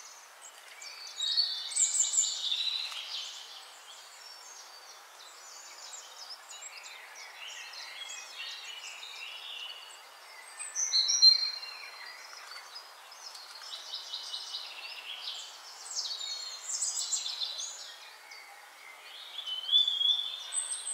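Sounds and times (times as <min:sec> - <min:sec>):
background hiss: 0:00.0 - 0:20.9
birds chirping and twittering: 0:00.0 - 0:20.9.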